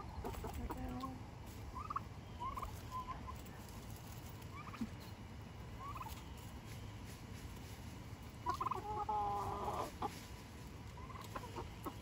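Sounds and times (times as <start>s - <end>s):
turkeys chirping: 0.0s - 12.0s.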